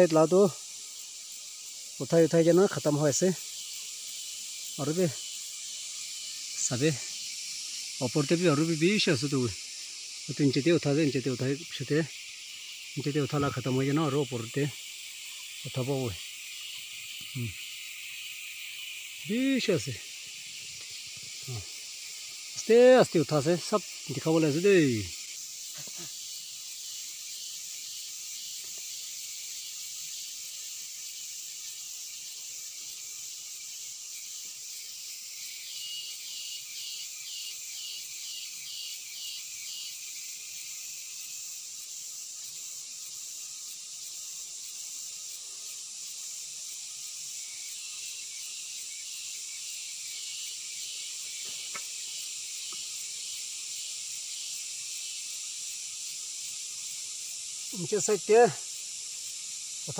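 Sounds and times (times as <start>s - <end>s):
chorus of forest insects: 0.0s - 59.9s
rapidly pulsing insect call: 0.0s - 59.9s.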